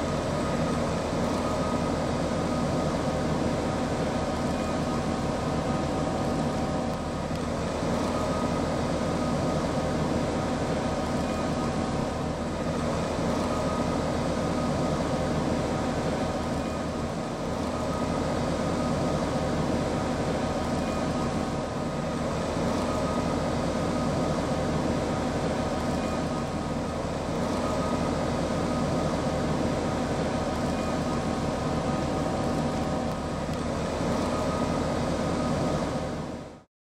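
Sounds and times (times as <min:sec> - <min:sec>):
diesel engine rumbling: 0:00.0 - 0:36.6
constant engine whine: 0:00.0 - 0:36.7.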